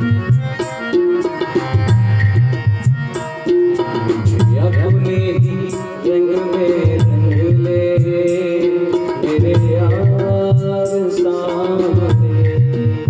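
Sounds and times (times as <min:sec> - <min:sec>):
held melody with sliding notes: 0:00.0 - 0:13.0
steady drum rhythm: 0:00.0 - 0:13.0.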